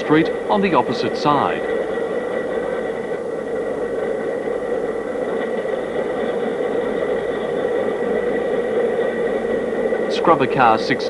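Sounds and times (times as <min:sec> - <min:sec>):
mechanical hum: 0:00.0 - 0:11.0
thin constant whine: 0:00.0 - 0:11.0.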